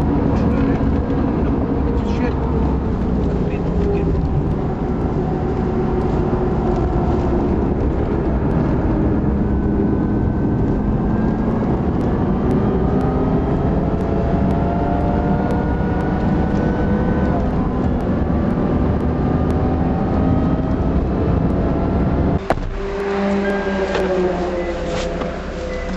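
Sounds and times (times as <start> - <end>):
car engine accelerating: 0.0 - 25.9
road and wind rumble: 0.0 - 25.9.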